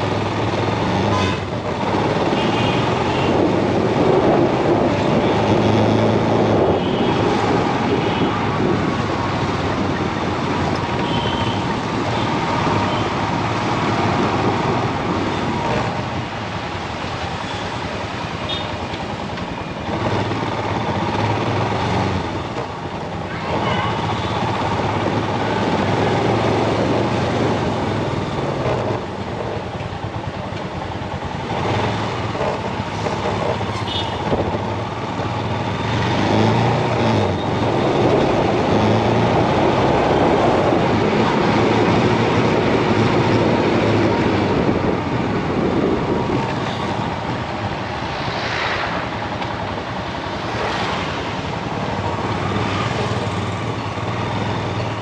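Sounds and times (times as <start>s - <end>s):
road noise: 0.0s - 55.0s
rushing wind: 0.0s - 55.0s.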